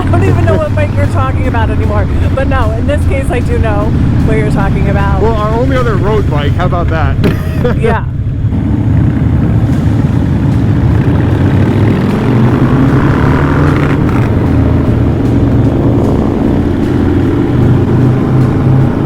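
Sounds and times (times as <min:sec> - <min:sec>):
motorcycles with loud exhausts: 0:00.0 - 0:19.0.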